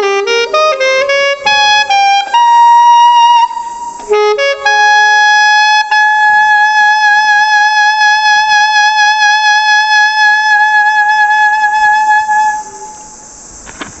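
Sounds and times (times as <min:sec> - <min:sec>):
alto saxophone long note: 0:00.0 - 0:13.4.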